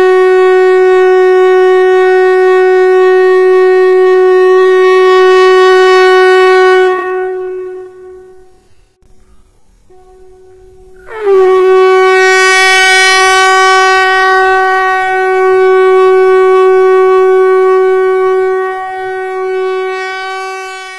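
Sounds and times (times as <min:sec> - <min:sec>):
conch shell trumpet blast: 0:00.0 - 0:09.0, 0:09.9 - 0:20.9.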